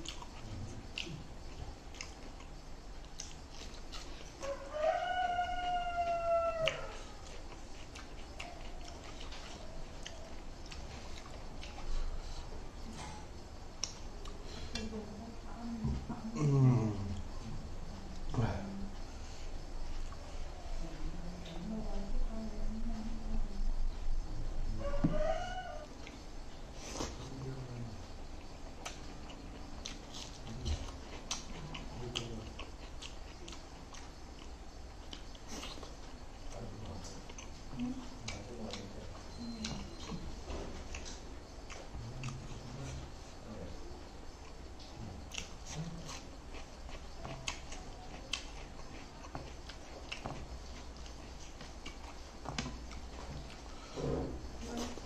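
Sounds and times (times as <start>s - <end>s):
person chewing food: 0.0s - 14.9s, 24.8s - 43.4s, 44.0s - 55.0s.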